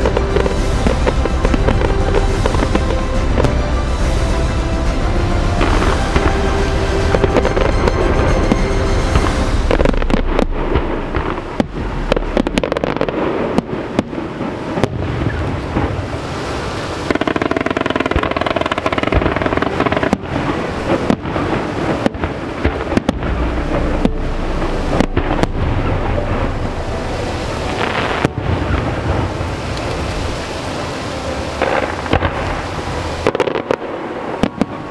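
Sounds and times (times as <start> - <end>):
fireworks bangs: 0.0 - 30.4, 31.6 - 34.9.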